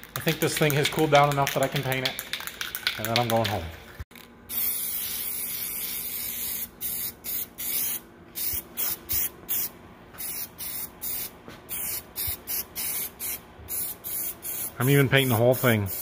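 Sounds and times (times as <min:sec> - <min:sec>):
spray paint can hissing: 0:00.6 - 0:03.4, 0:04.5 - 0:16.0.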